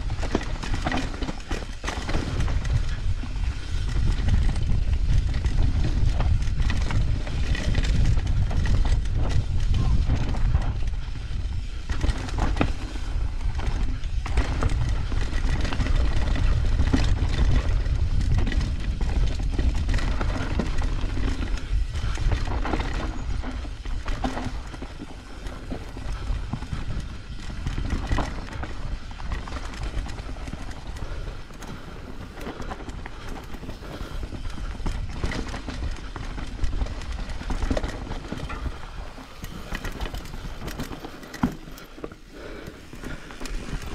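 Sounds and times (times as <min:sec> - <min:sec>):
bike frame and chain clattering: 0:00.0 - 0:43.9
bike tyres on dirt: 0:00.0 - 0:43.9
wind rumble on microphone: 0:00.0 - 0:43.9.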